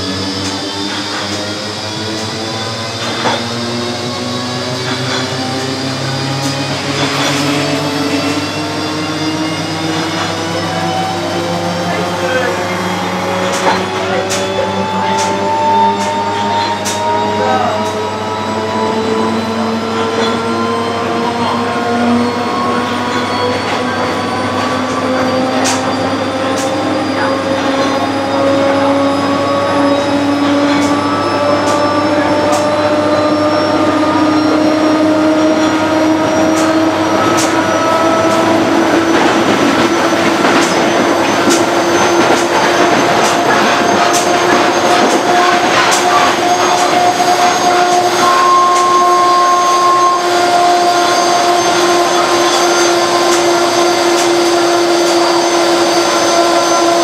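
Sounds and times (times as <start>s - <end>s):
train car rumble: 0.0s - 57.0s
train motor whine rising: 0.0s - 57.0s.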